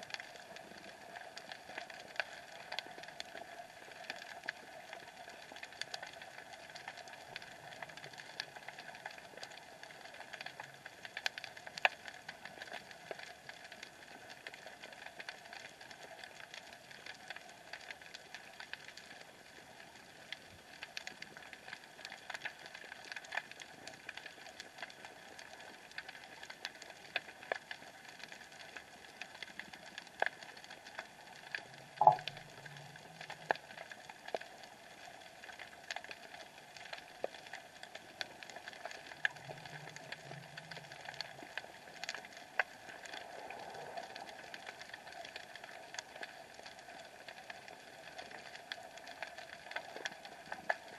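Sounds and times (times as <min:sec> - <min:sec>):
clicks and crackles: 0:00.0 - 0:50.9.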